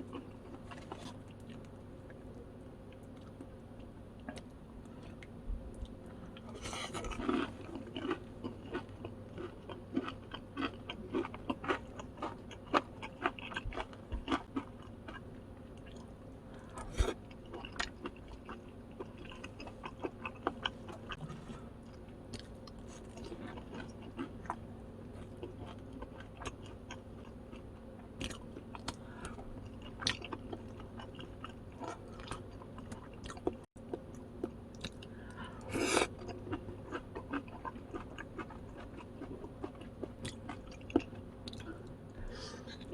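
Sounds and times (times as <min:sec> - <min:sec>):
chewing and crunching: 0:00.0 - 0:42.9
faint steady hum: 0:00.0 - 0:42.9.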